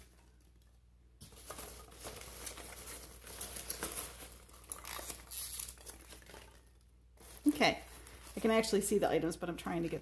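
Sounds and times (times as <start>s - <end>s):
packing peanuts rustling: 1.2s - 9.3s.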